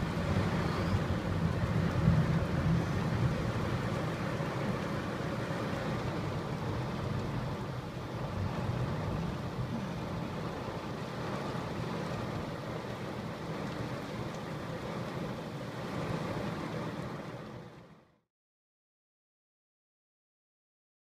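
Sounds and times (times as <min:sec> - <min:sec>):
pouring rain: 0:00.0 - 0:18.1
wind: 0:00.0 - 0:18.3.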